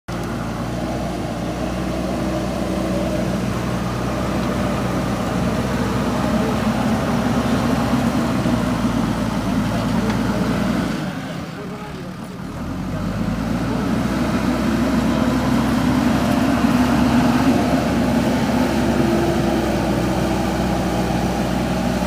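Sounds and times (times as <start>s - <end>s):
diesel engine running: 0.1s - 22.0s.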